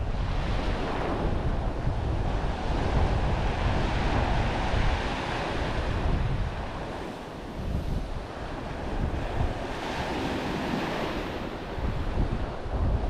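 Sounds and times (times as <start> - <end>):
surf breaking on a beach: 0.0 - 13.0
wind buffeting microphone: 0.0 - 13.0.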